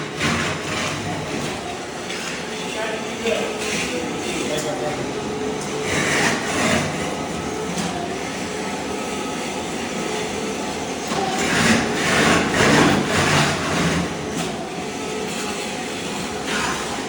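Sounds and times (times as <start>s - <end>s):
floor scraper blade scraping mortar: 0.0s - 17.0s.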